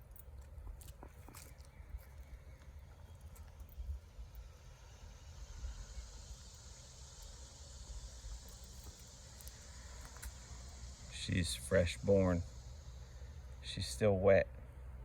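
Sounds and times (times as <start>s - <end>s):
insects hissing: 1.2s - 15.0s.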